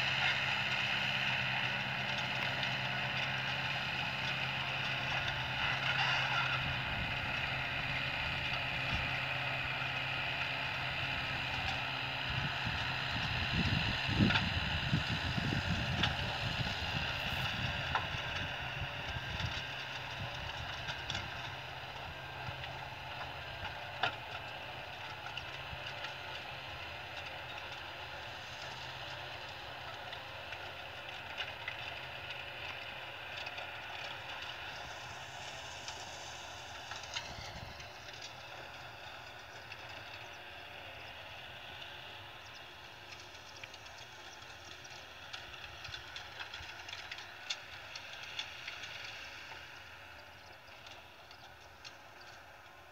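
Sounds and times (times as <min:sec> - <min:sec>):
tractor with manure spreader: 0:00.0 - 0:52.9.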